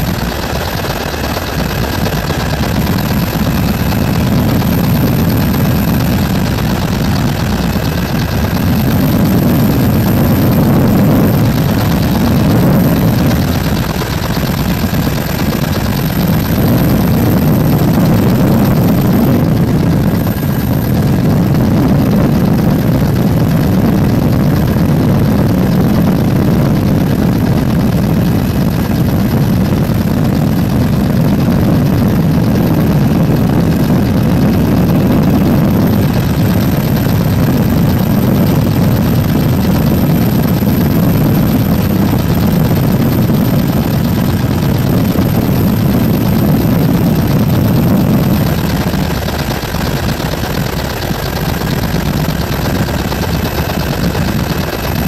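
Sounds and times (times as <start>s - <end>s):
helicopter rotor and engine drone: 0.0s - 55.0s
high whine: 0.0s - 55.0s.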